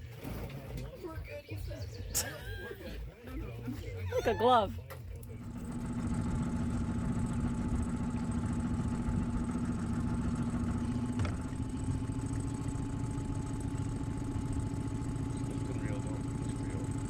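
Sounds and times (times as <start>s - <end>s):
vehicle engine running: 3.3s - 17.0s.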